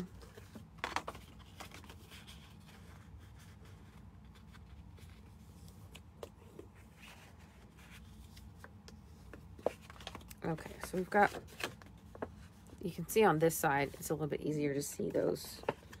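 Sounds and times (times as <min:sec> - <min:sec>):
paper rustling and creasing: 0:00.0 - 0:12.9, 0:14.8 - 0:16.0
low steady hum: 0:00.0 - 0:16.0.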